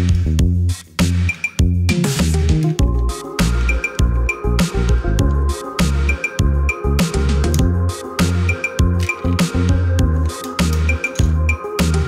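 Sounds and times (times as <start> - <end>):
electronic music with bass and drums: 0.0 - 12.0.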